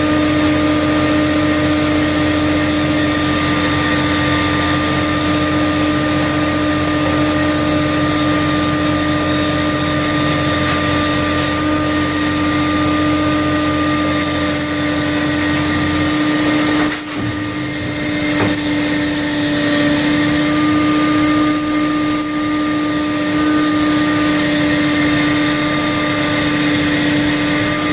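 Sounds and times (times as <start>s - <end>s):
engine and net drum droning: 0.0s - 27.9s.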